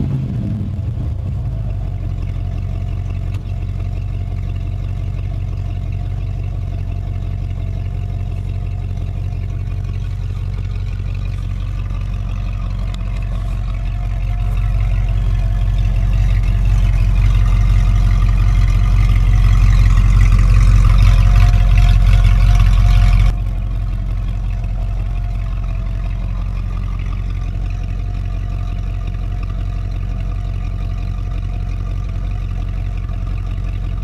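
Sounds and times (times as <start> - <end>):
loud raspy truck engine: 0.0 - 34.0.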